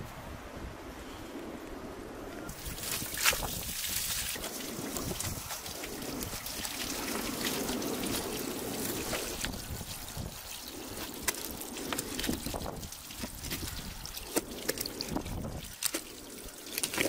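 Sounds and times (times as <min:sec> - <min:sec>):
water trickling from a hose: 0:02.5 - 0:17.0.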